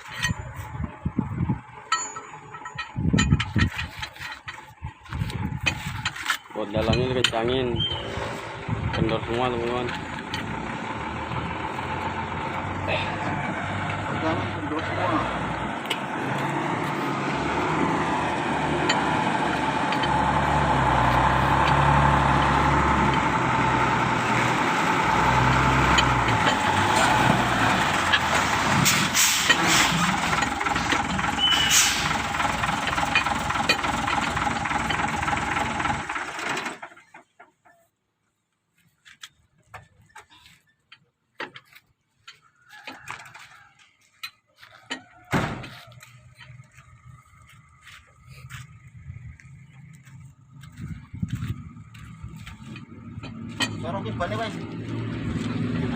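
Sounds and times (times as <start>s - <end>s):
heavy vehicle engine rumbling: 0.0s - 38.0s, 38.8s - 55.9s.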